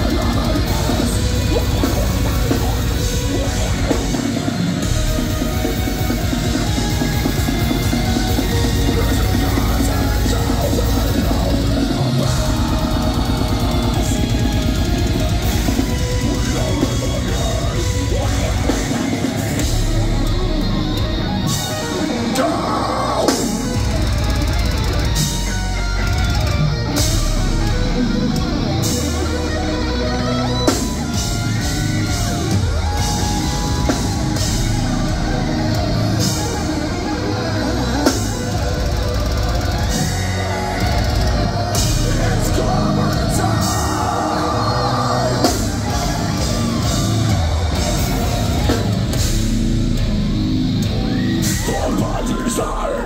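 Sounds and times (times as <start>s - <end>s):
distorted electric guitars: 0.0s - 53.0s
pounding drum kit: 0.0s - 53.0s.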